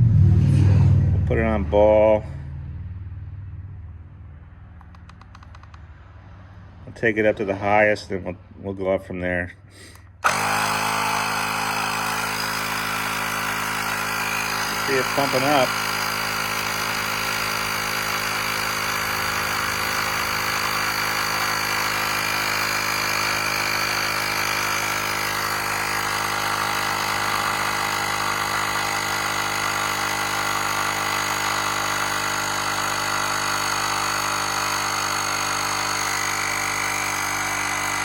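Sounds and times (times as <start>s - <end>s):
air compressor drone with whine: 0.0s - 8.7s, 9.7s - 38.0s.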